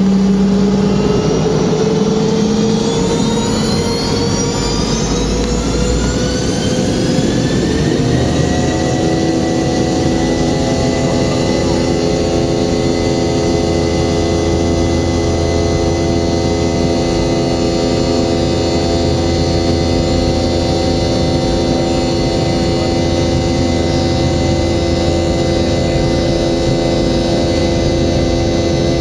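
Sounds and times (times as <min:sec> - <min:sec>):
jet engines spooling up: 0:00.0 - 0:29.0.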